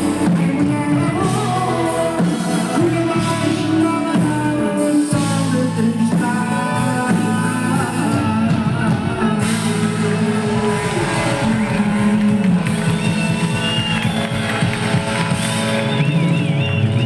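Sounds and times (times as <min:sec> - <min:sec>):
person singing: 0:00.0 - 0:14.2
live band playing pop music: 0:00.0 - 0:17.0.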